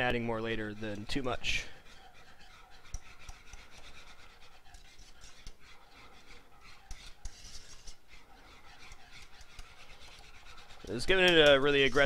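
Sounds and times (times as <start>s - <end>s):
whisk scraping a saucepan: 0.0s - 12.0s.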